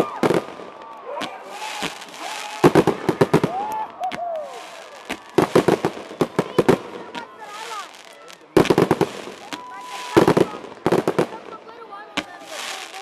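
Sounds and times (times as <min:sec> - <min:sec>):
fireworks bangs and crackle: 0:00.0 - 0:13.0.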